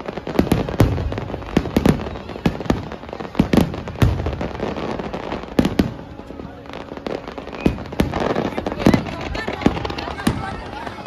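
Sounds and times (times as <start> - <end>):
fireworks bangs with echo: 0.0 - 11.0.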